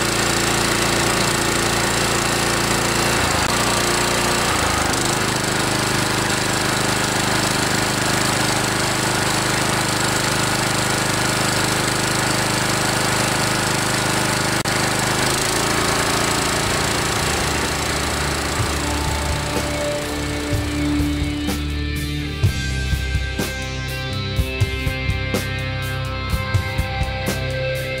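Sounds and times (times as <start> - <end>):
string trimmer engine running: 0.0 - 23.6.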